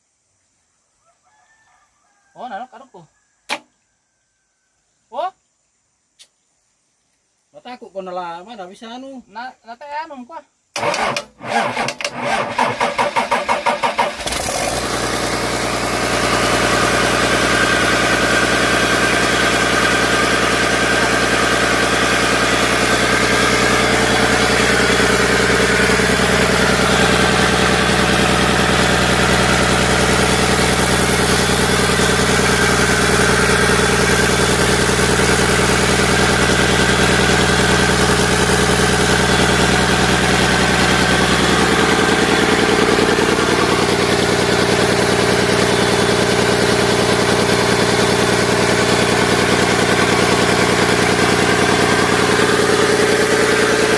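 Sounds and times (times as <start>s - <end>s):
diesel engine starting and running: 10.7s - 53.9s.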